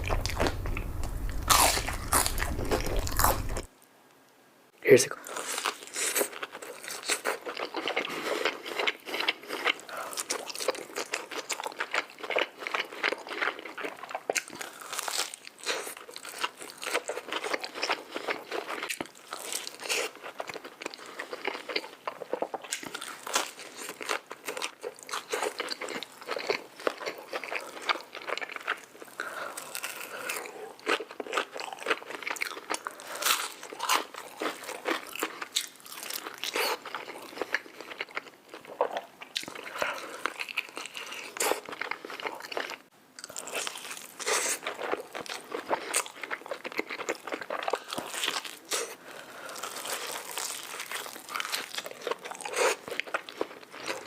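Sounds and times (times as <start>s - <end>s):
crunchy chewing: 0.0s - 3.7s, 5.2s - 54.0s.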